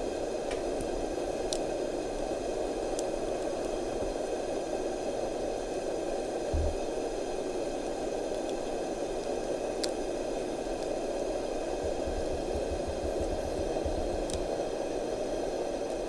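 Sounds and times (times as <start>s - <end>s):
wood fire hissing: 0.0s - 16.0s
wood crackle: 0.4s - 16.0s.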